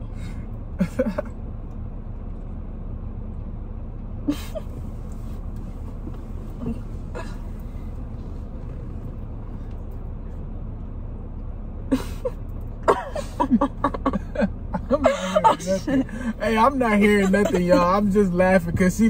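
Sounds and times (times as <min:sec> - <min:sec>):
car cabin hum: 0:00.0 - 0:02.6, 0:03.3 - 0:19.0.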